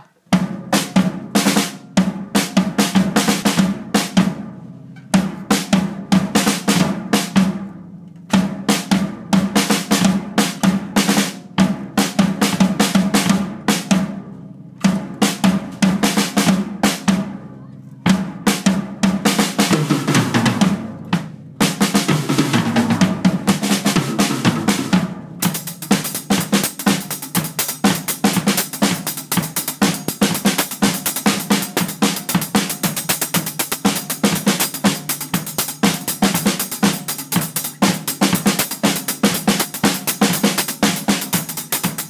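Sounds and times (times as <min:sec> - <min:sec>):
drum kit played with sticks: 0:00.0 - 0:42.0.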